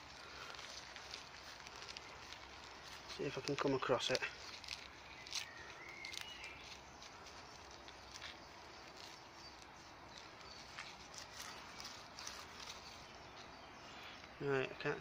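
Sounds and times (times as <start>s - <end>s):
clods falling clicks: 0.0s - 13.5s
hands crumbling soil: 0.0s - 14.4s.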